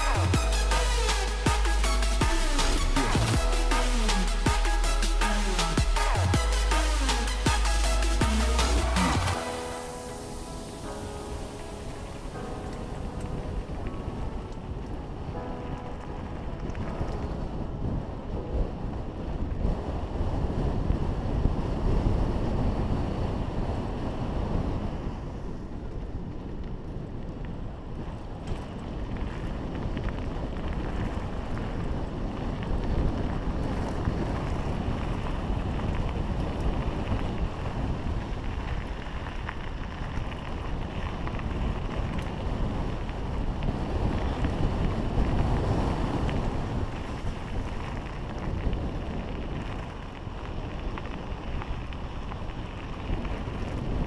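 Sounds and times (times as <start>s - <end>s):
wind buffeting microphone: 0.0s - 54.0s
bike tyres rolling on gravel: 6.2s - 54.0s.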